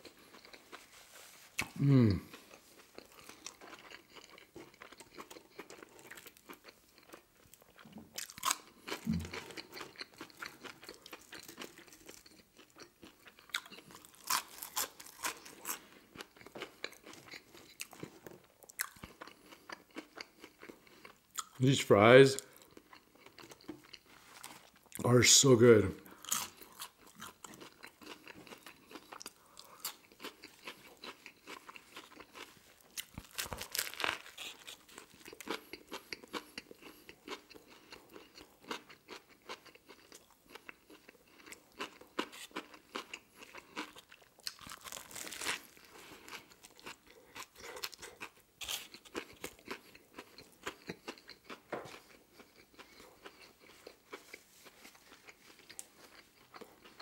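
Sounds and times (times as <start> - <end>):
crunchy chewing: 0.0 - 0.9, 1.5 - 21.6, 22.4 - 25.0, 26.1 - 57.0.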